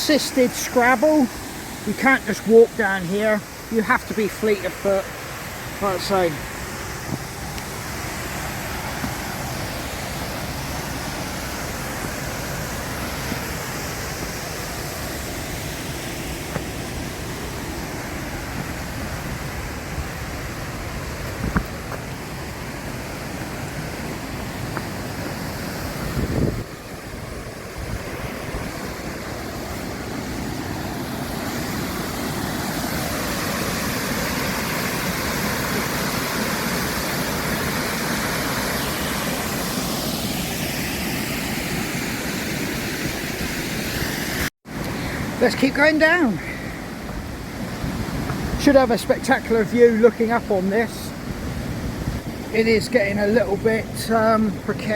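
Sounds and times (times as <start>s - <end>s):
surf and wind rushing: 0.0s - 54.9s.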